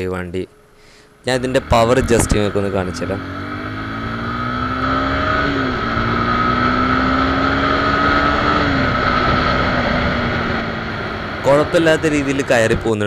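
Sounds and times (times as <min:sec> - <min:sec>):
motorcycle engine revving: 0:01.1 - 0:13.0.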